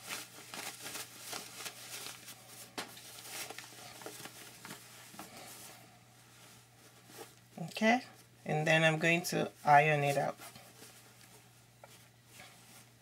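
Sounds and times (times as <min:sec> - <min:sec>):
cloth rustling and brushing: 0:00.0 - 0:13.0.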